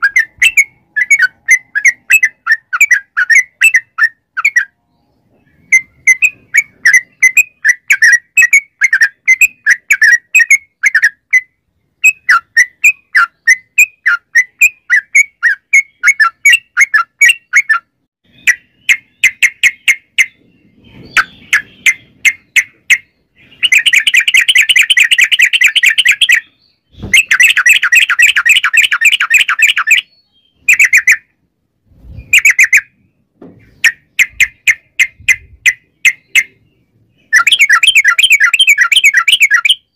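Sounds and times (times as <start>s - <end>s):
bird chirping and trilling: 0.0s - 31.4s, 32.0s - 39.9s.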